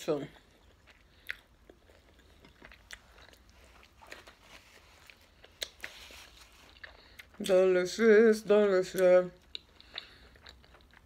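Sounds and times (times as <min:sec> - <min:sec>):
close-up chewing: 0:00.2 - 0:07.7, 0:08.9 - 0:11.0.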